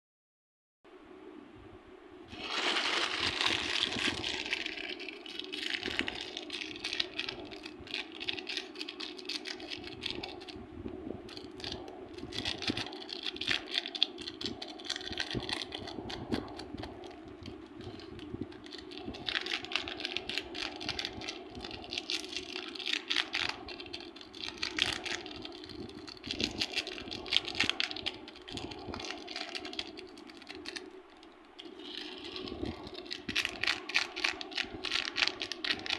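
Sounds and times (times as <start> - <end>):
steady low hum: 0.9 - 35.9.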